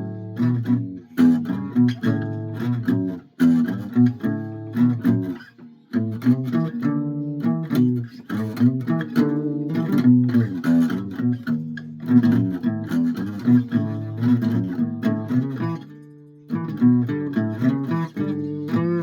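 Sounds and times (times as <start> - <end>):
guitar picked notes: 0.0 - 19.0.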